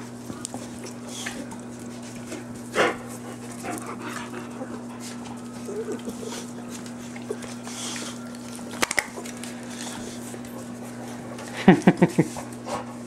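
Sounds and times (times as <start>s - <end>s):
puppies panting: 0.4s - 13.0s.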